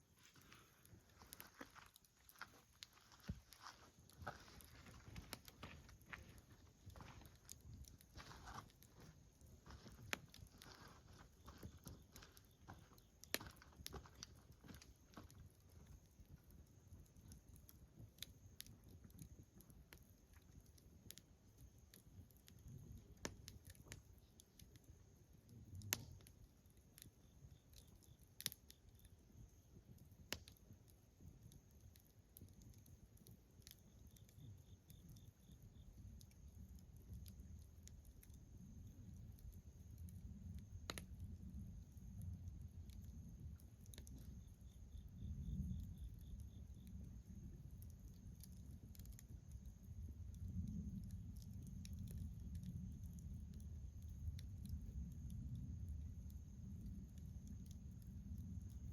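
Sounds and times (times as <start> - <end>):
bonfire crackling and popping: 0.0 - 58.9.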